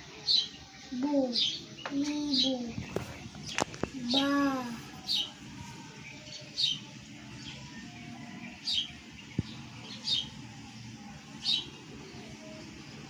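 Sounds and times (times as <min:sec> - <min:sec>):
bird chirping: 0:00.2 - 0:12.7.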